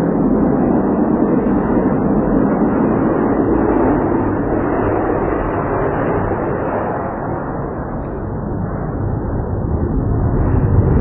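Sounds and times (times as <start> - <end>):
fighter jet engines roaring: 0.0 - 11.0.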